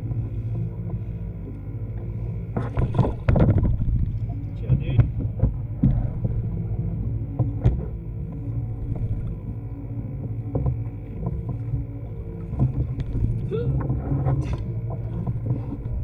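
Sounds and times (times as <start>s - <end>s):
water and wind rumble: 0.0s - 16.0s.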